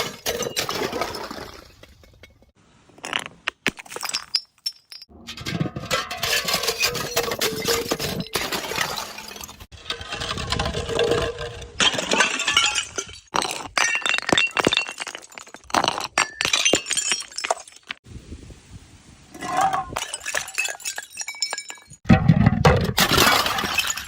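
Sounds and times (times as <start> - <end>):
glass bottles smashing: 0.0 - 2.5, 3.8 - 9.7, 10.6 - 18.0, 19.6 - 22.0, 22.9 - 24.0.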